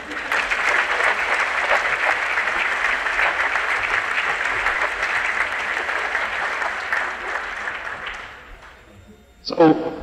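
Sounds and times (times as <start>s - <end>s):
large audience applauding: 0.0s - 9.1s.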